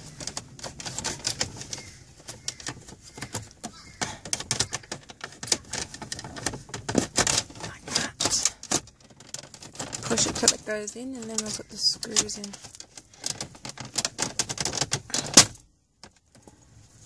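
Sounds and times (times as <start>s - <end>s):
hard plastic clicks and knocks: 0.0s - 16.6s.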